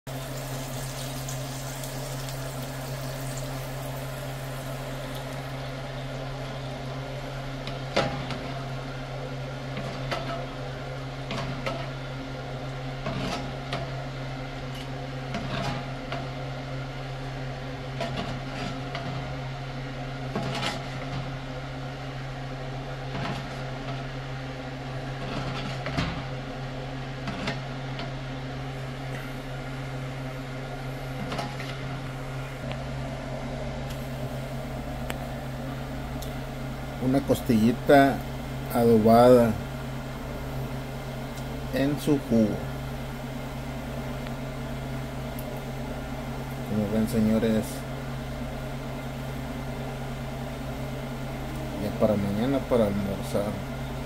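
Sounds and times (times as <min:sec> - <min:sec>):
oven humming: 0:00.0 - 0:54.0.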